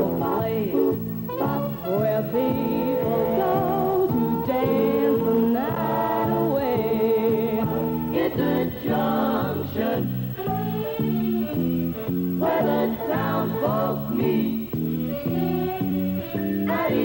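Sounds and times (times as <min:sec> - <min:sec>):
song with singing voices: 0:00.0 - 0:17.0.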